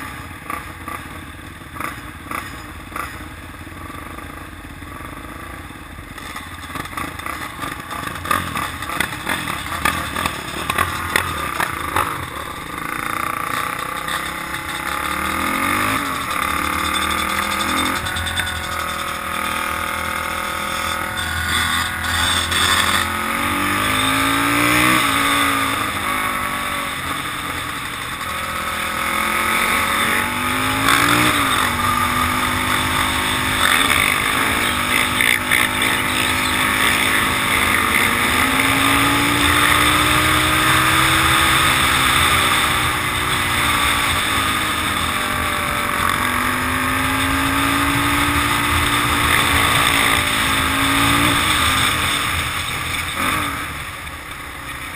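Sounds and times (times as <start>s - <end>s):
quad engine revving: 0.0s - 54.9s.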